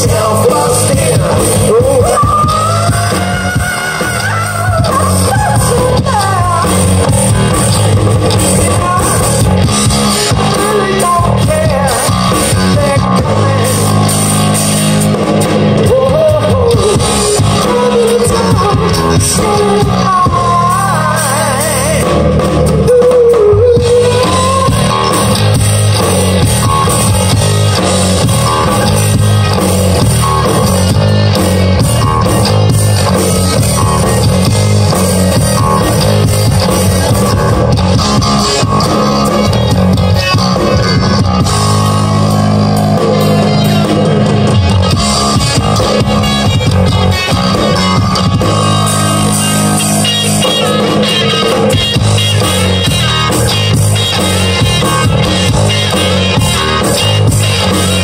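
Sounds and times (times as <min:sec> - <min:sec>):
person singing: 0:00.0 - 0:14.3, 0:15.6 - 0:58.0
bass guitar: 0:00.0 - 0:58.0
drum kit: 0:00.0 - 0:58.0
electric guitars: 0:00.0 - 0:58.0.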